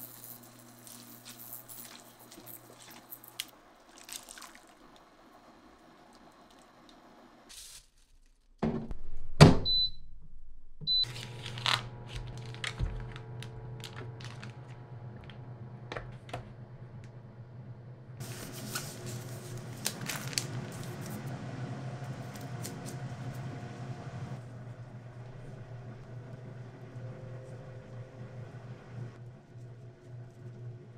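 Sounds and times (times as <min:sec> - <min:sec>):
appliance humming: 0:00.0 - 0:07.5, 0:10.8 - 0:30.9.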